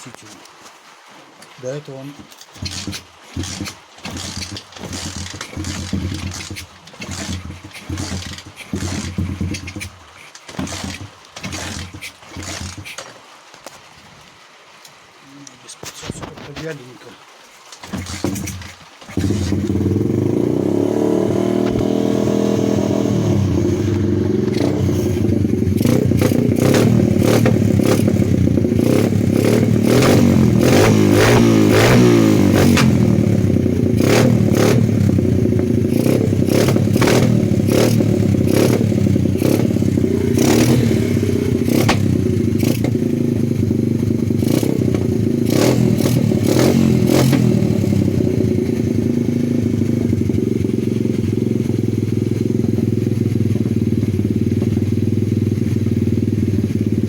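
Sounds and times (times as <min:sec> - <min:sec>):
exhaust pops: 0:02.2 - 0:13.8, 0:15.8 - 0:16.9, 0:17.8 - 0:57.0
motorcycle engine running unevenly: 0:02.6 - 0:13.0, 0:17.8 - 0:57.0.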